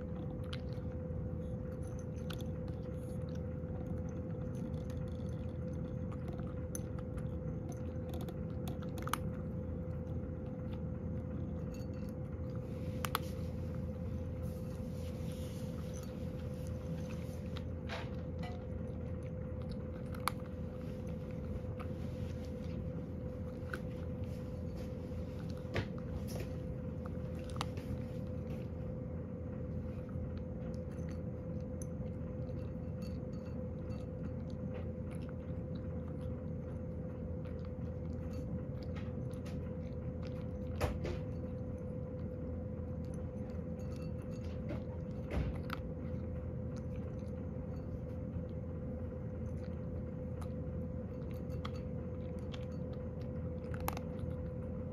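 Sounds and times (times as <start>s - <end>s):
cat crunching dry kibble: 0.0s - 54.9s.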